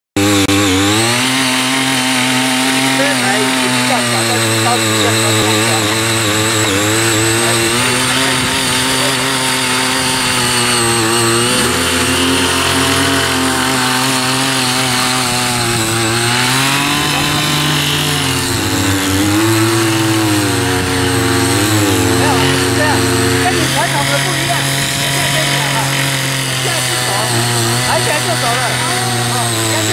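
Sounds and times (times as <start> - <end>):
small petrol engines running: 0.1 - 29.9.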